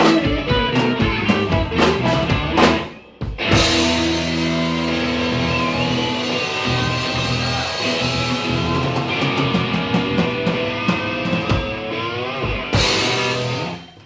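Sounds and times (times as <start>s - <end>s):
rock band music: 0.0s - 14.0s.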